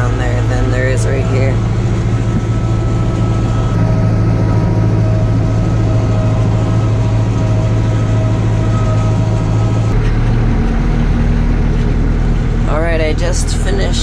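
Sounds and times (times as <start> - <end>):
faint steady whine: 0.0 - 14.0
tractor engine droning: 0.0 - 14.0.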